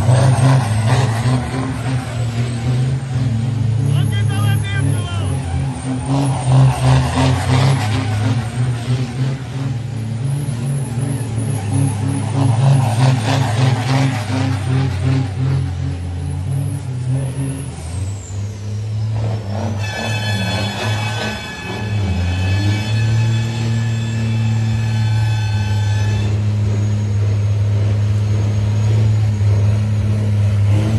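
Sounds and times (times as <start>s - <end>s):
truck diesel engines running: 0.0s - 30.9s.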